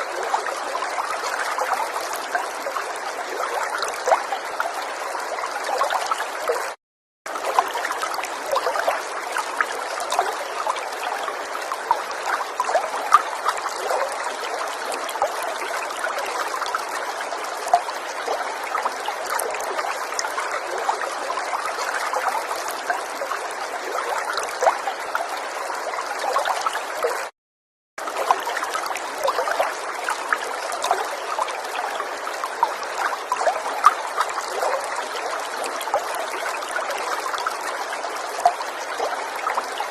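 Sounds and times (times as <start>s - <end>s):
river water trickling: 0.0s - 27.3s, 28.0s - 39.9s.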